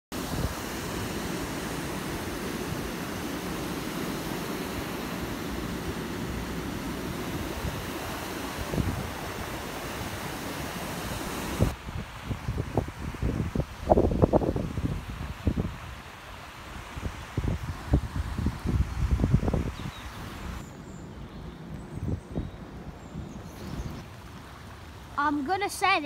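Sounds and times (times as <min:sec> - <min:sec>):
rushing floodwater: 0:00.1 - 0:20.6, 0:22.8 - 0:26.0
wind on microphone: 0:00.2 - 0:20.6, 0:21.8 - 0:24.2.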